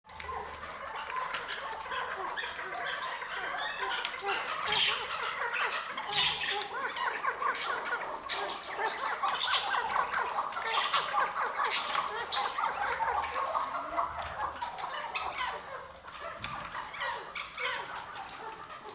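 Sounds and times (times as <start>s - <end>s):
partridge clucking call: 0.2s - 18.9s.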